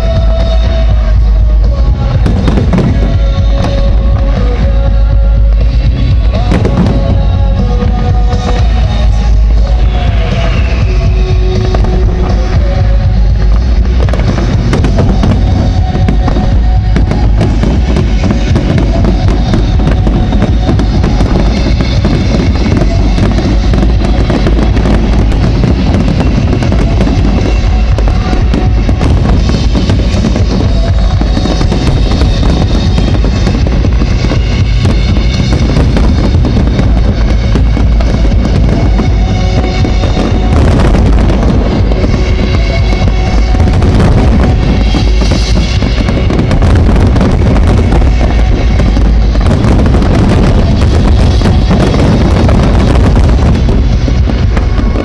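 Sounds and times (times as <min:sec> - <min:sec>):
firework bangs and crackles: 0:00.0 - 0:55.0
loud music: 0:00.0 - 0:55.0.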